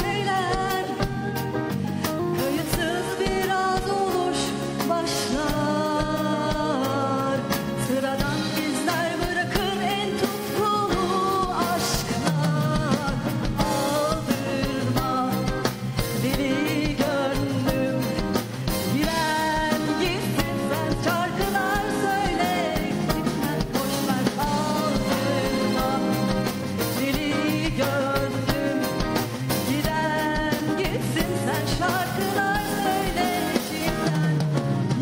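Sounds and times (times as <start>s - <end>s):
band with keyboards and guitar: 0.0s - 35.0s
woman singing into a microphone: 0.0s - 35.0s.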